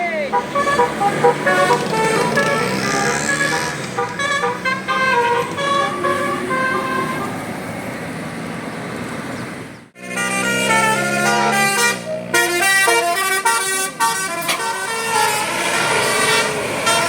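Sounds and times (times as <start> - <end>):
engine and road noise: 0.0 - 17.0
traffic noise: 0.0 - 17.0
bus musical horn tune: 0.3 - 7.4, 10.0 - 17.0.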